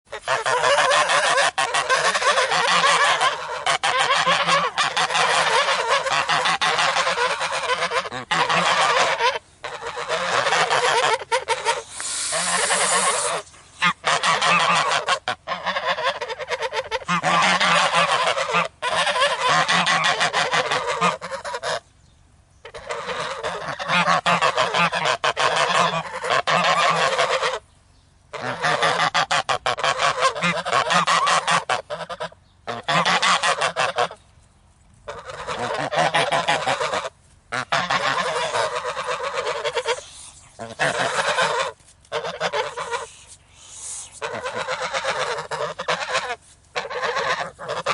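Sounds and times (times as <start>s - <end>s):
geese honking: 0.1s - 21.9s, 22.6s - 27.6s, 28.3s - 34.2s, 35.0s - 47.9s.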